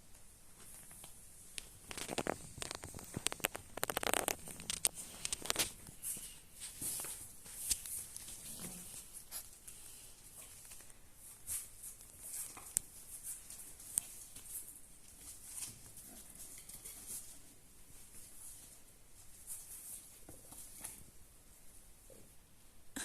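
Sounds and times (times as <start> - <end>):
puppy paws pattering: 0.1 - 21.8.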